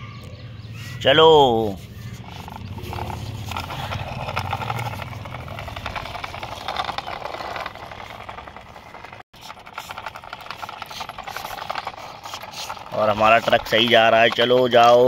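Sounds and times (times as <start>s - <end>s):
toy truck rattling on concrete: 2.0s - 15.0s.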